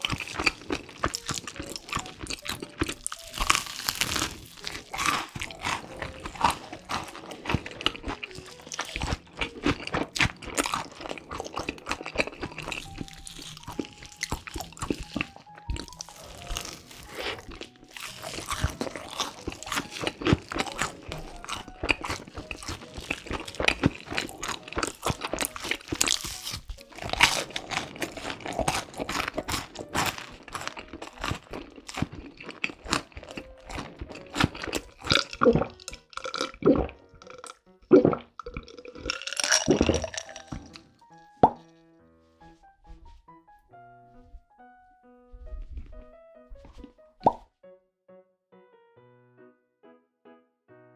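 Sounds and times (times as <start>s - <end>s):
crunching and chewing: 0.0s - 41.8s, 42.6s - 43.3s, 44.1s - 44.5s, 45.3s - 47.4s
quiet background music: 0.0s - 50.9s.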